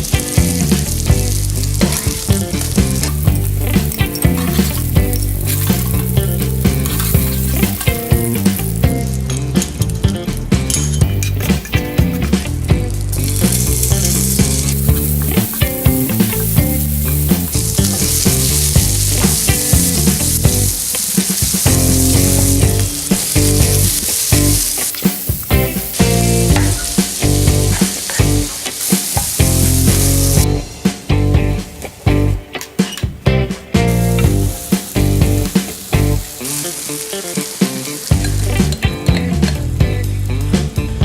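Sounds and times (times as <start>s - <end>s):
background music with bass: 0.0s - 20.9s, 21.5s - 32.5s, 33.1s - 36.8s, 37.4s - 41.0s
food sizzling in a pan: 0.0s - 31.1s, 33.8s - 40.5s.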